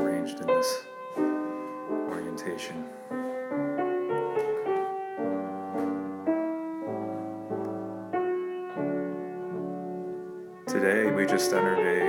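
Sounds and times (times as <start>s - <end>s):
gentle slow piano music: 0.0s - 12.0s.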